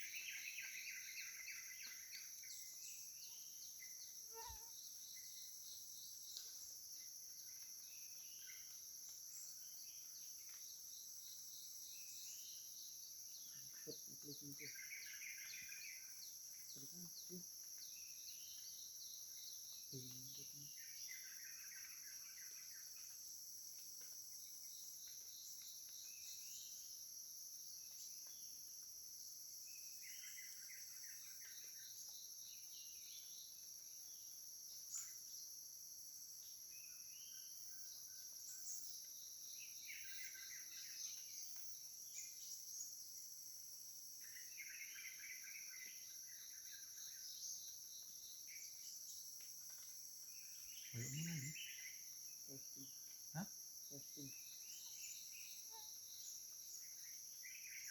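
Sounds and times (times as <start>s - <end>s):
bird chirping: 0.0s - 28.8s, 36.2s - 57.9s
insects chorus: 0.0s - 57.9s.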